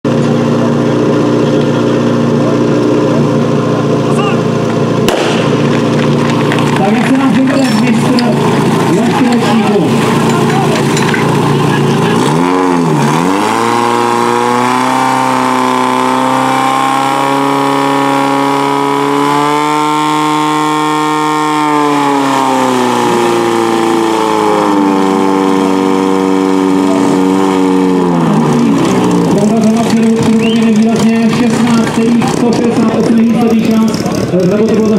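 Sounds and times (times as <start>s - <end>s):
pump petrol engine running: 0.0s - 34.9s.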